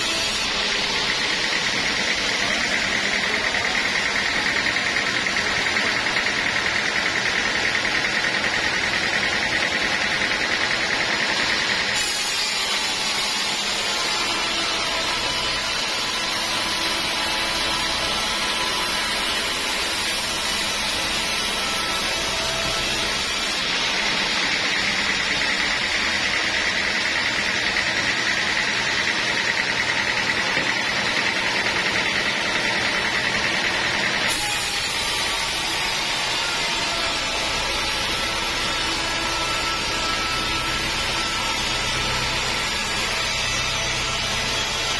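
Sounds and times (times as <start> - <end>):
high machine whine: 0.0 - 44.9
sawmill saw cutting wood: 0.0 - 44.9.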